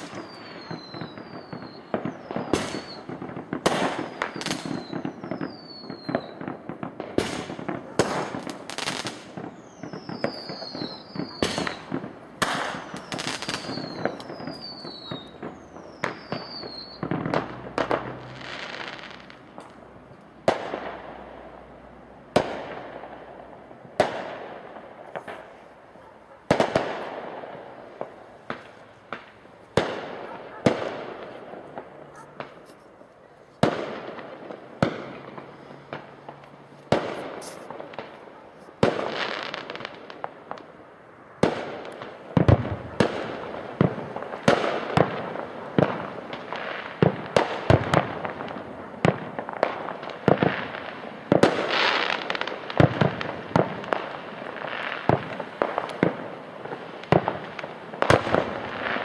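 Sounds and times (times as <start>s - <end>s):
fireworks whistles: 0.0s - 21.5s, 22.3s - 40.6s, 41.4s - 59.0s
fireworks bangs and cracks: 0.0s - 59.0s.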